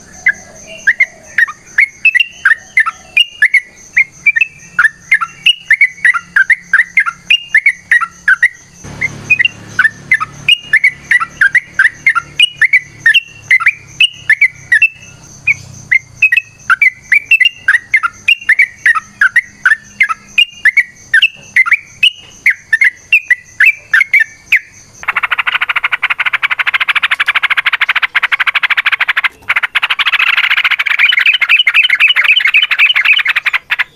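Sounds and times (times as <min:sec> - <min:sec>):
bird singing chirping notes: 0:00.0 - 0:33.9
harsh bird chattering: 0:04.3 - 0:33.9.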